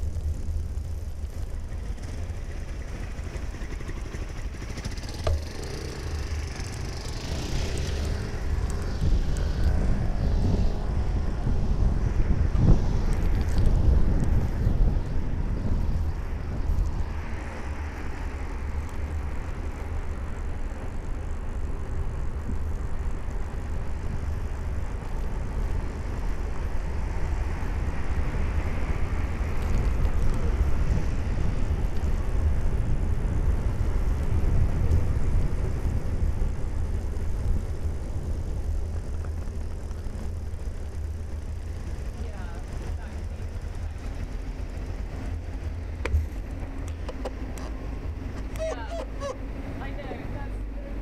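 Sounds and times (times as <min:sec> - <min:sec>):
road traffic: 0:00.0 - 0:51.0
wind noise on microphone: 0:00.0 - 0:51.0.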